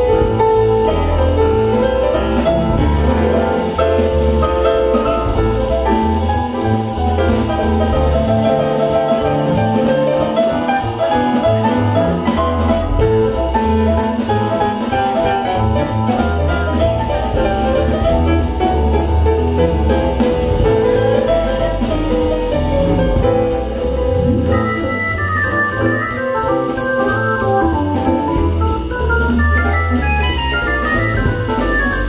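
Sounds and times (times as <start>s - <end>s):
instrumental jazz: 0.0s - 32.0s.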